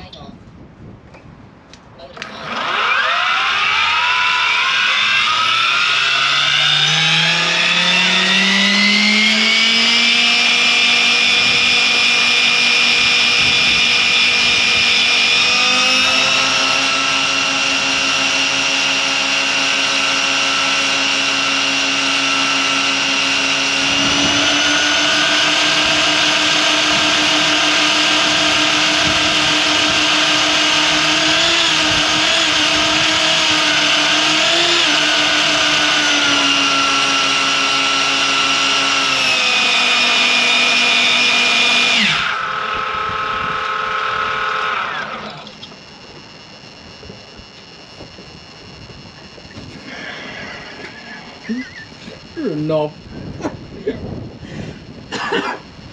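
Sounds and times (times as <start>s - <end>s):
rc helicopter motor and rotors whining: 2.1s - 55.9s.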